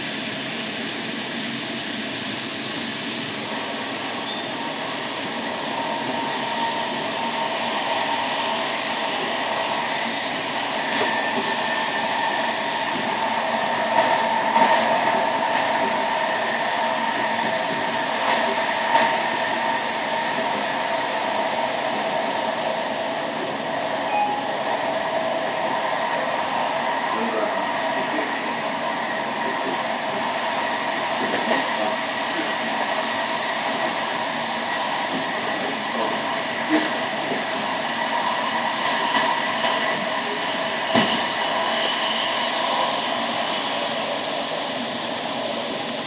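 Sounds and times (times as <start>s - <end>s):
train rolling noise: 0.0s - 46.0s.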